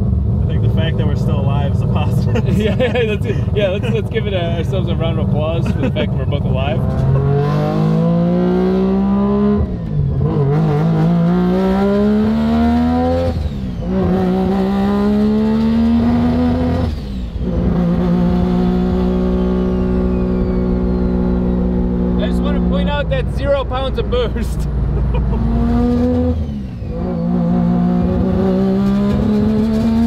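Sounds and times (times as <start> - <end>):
rotary engine accelerating: 0.0 - 30.0.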